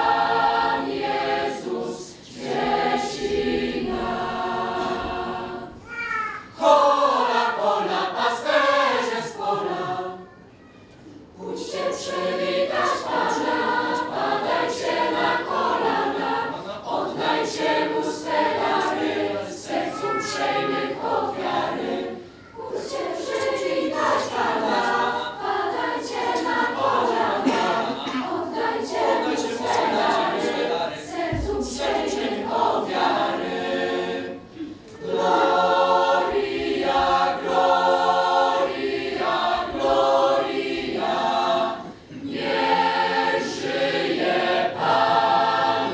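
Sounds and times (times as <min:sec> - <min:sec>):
youth choir singing unaccompanied: 0:00.0 - 0:05.9, 0:06.5 - 0:45.9.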